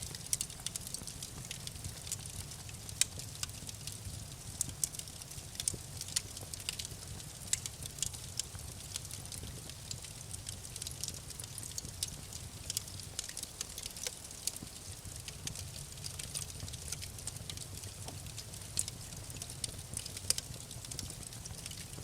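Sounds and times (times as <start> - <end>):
wood fire crackling: 0.0 - 22.0
fire pops and snaps: 0.1 - 22.0.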